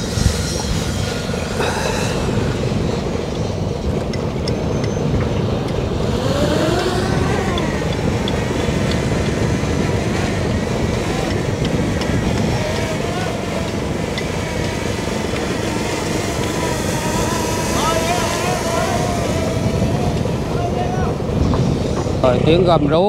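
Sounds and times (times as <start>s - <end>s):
diesel engine running: 0.0s - 23.0s
water pump working: 0.0s - 23.0s.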